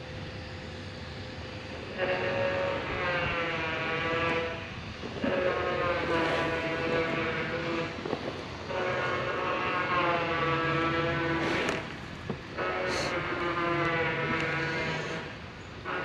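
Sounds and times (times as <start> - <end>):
train horn blasts: 1.8 - 8.0, 8.6 - 16.0.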